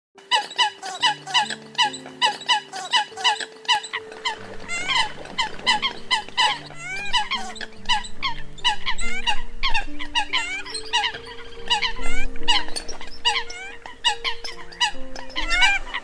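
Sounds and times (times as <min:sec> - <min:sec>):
coots calling: 0:00.2 - 0:16.0
low background music: 0:00.2 - 0:16.0.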